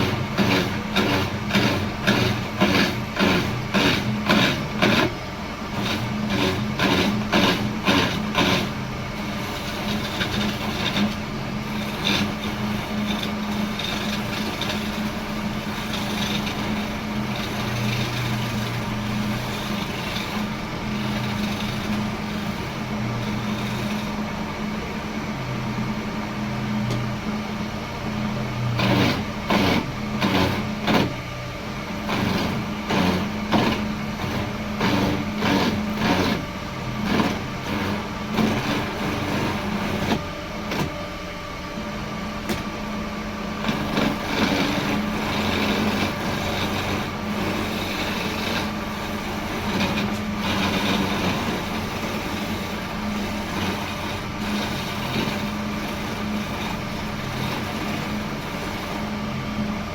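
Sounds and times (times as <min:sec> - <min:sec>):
wood being cut: 0:00.0 - 0:24.9, 0:28.6 - 0:31.3, 0:31.9 - 0:41.2, 0:43.5 - 0:59.7
woodworking machine humming: 0:00.0 - 0:59.9.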